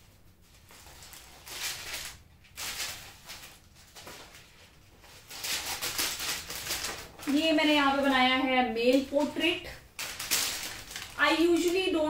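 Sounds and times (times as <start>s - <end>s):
paper sheets rustling: 0.0s - 12.0s.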